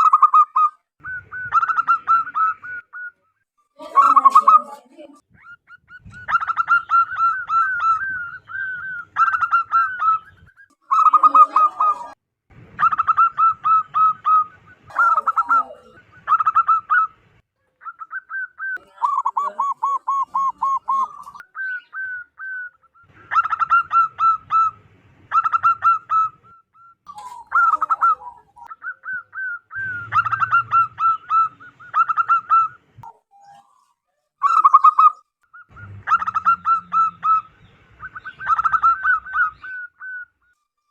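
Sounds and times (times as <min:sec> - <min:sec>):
dove cooing: 0:00.0 - 0:12.2, 0:12.8 - 0:17.2, 0:17.8 - 0:33.8, 0:34.4 - 0:40.5.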